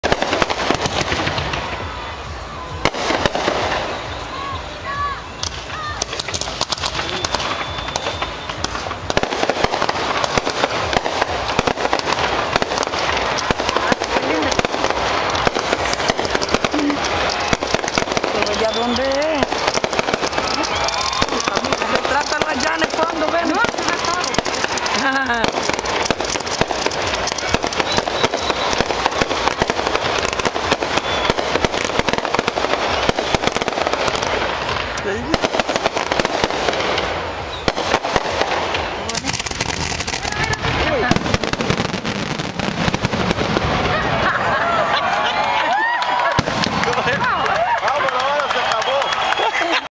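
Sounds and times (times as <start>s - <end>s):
steady rushing noise: 0.0s - 48.4s
dense crackling and popping: 0.0s - 49.8s.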